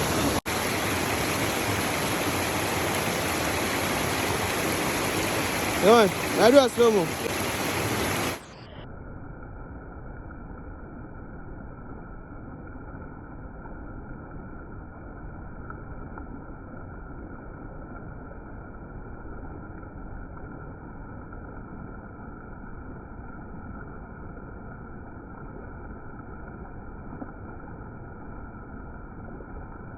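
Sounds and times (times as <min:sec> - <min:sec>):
muffled low waterfall rumble: 0:00.0 - 0:29.9.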